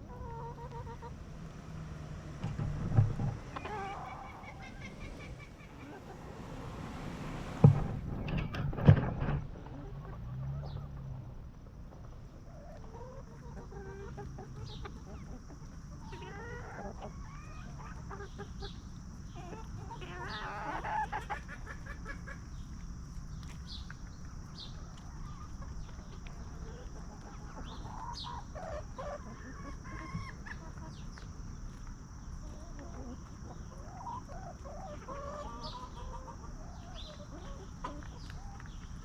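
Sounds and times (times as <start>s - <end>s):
hens clucking: 0.0s - 39.0s.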